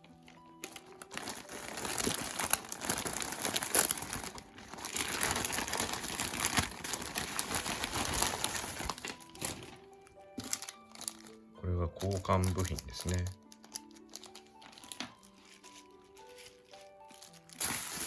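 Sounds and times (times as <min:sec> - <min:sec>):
packaging crumpling and rustling: 0:00.0 - 0:18.0.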